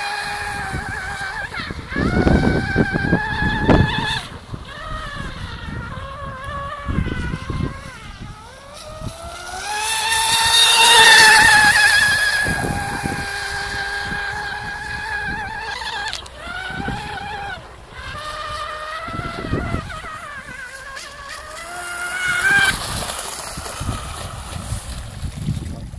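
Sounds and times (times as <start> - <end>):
model boat engine high-pitched: 0.0 - 25.9.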